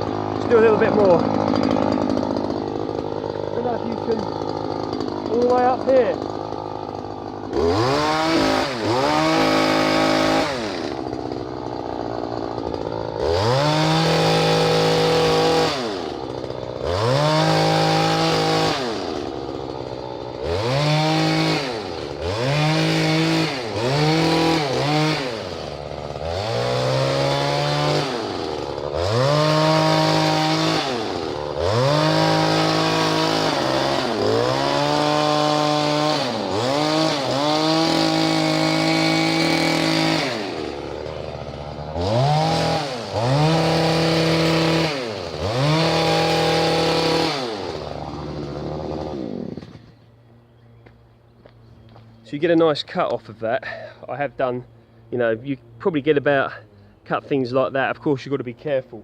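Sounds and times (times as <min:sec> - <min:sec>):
hedge trimmer engine revving: 0:00.0 - 0:59.0.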